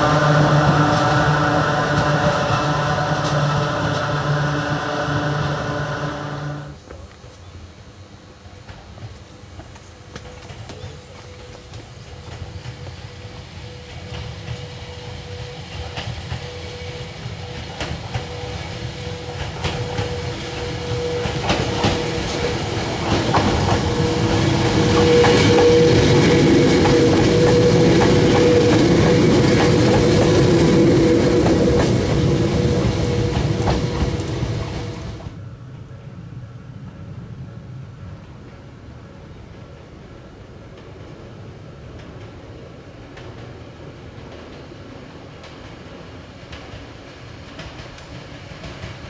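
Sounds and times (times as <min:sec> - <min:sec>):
electric train hum: 0:00.0 - 0:49.0.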